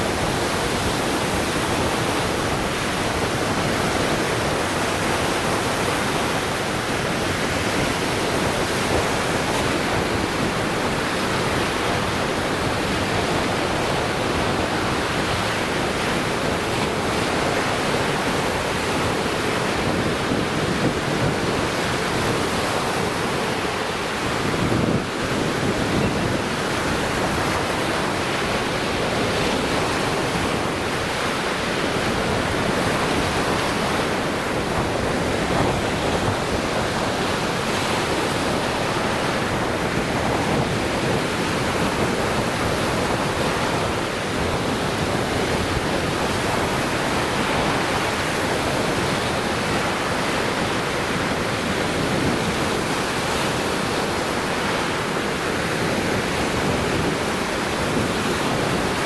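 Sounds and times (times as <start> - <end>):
waves washing on shore: 0.0 - 59.0.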